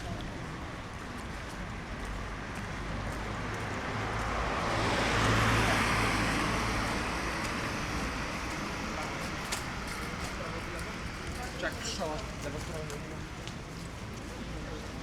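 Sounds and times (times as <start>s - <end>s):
low traffic hum: 0.0s - 15.0s
car passing on wet street: 0.2s - 15.0s.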